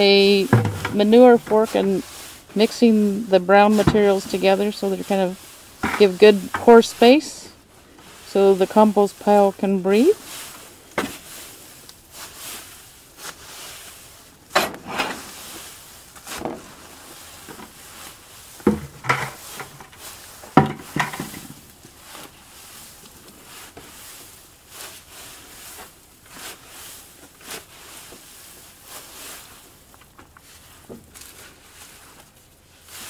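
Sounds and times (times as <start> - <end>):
fork rustling dry leaves and straw: 0.0 - 33.0.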